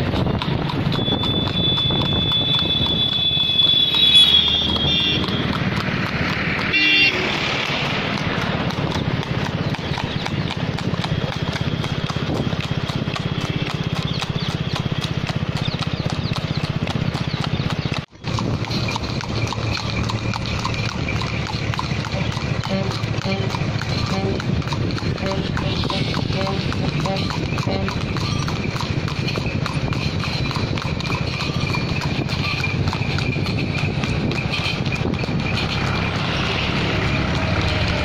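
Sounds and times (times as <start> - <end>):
horse hoofbeats on asphalt: 0.0 - 38.0.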